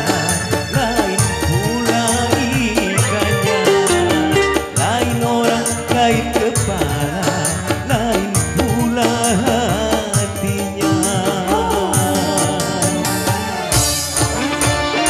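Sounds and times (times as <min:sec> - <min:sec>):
man singing into a microphone: 0:00.0 - 0:13.7
small band with keyboard: 0:00.0 - 0:15.0.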